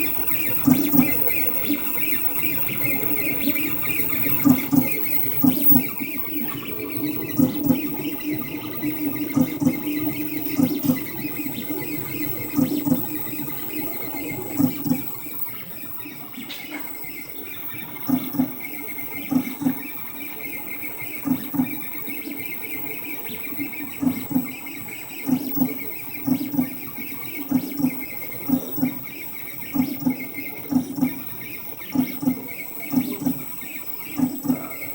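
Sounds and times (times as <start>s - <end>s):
stepper motors whining: 0.0s - 34.9s.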